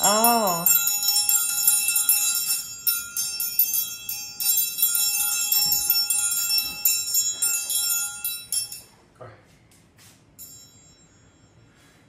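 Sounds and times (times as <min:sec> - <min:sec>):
small bells jingling: 0:00.0 - 0:09.0, 0:10.4 - 0:11.9
lower ringing tone: 0:00.0 - 0:09.2, 0:10.4 - 0:12.0.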